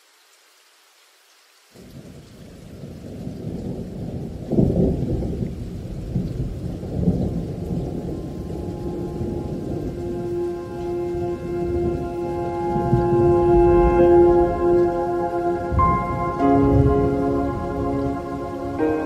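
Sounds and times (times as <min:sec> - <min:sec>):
rolling thunder: 0:01.9 - 0:19.0.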